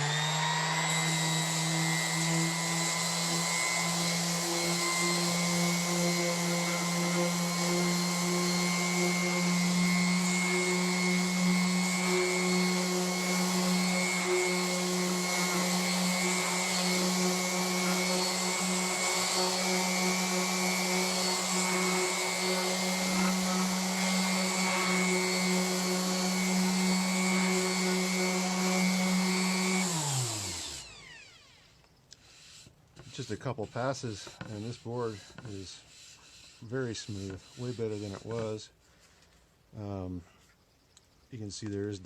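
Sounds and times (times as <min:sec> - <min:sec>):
orbit sander sanding wood: 0:00.0 - 0:40.2.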